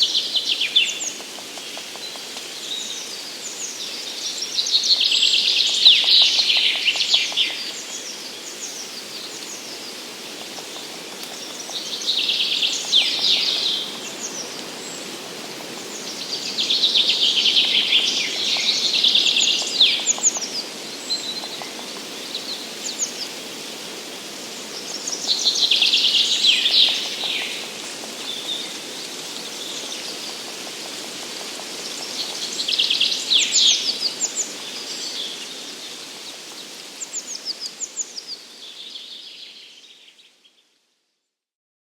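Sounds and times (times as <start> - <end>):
forest background hiss: 0.0 - 41.4.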